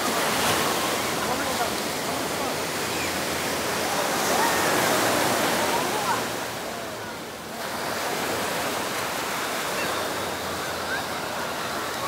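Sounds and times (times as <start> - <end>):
faint distant crowd voices: 0.0 - 12.0
surf washing onto beach: 0.0 - 12.0.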